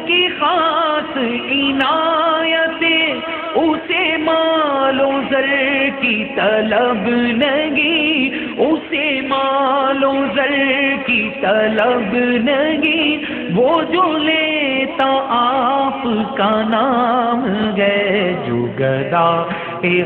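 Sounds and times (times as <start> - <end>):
man singing devotional poem: 0.0 - 20.0.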